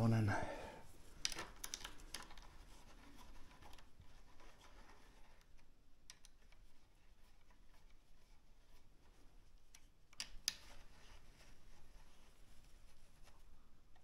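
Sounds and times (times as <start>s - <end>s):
faint scratching handling noises: 0.0s - 14.0s.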